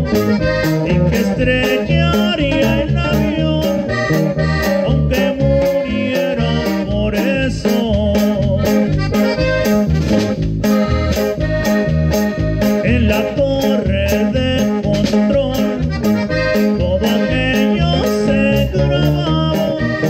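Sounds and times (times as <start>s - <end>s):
button accordion melody: 0.0s - 20.0s
drums and bass beat: 0.0s - 20.0s
guitar strumming: 0.0s - 20.0s.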